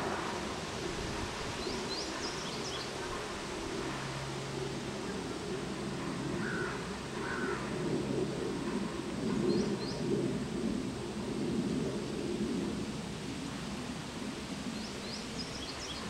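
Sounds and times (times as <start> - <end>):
wind gusting over microphone: 0.0 - 16.0.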